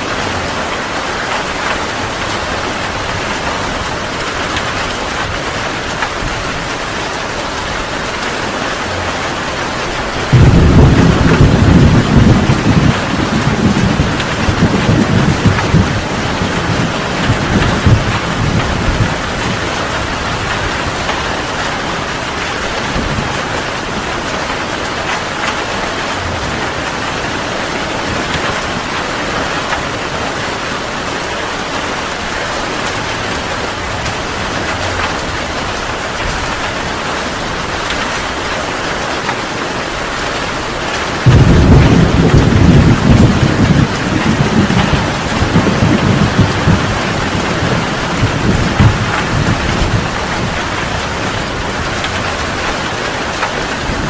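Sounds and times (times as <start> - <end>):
thunder rumbling: 0.0 - 38.0, 41.0 - 54.0
heavy rain falling: 0.0 - 54.0.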